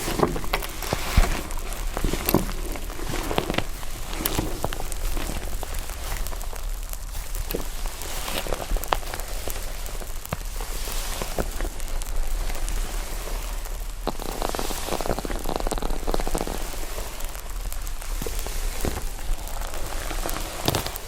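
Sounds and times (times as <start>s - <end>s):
slime crackling and popping: 0.0s - 21.0s.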